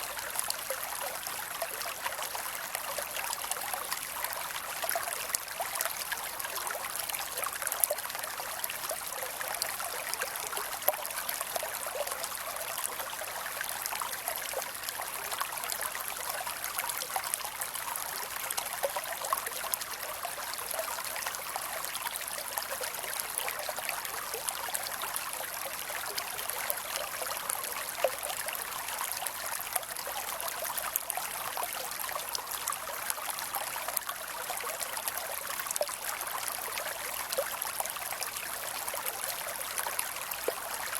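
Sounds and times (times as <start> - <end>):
creek water babbling over stones: 0.0 - 40.9.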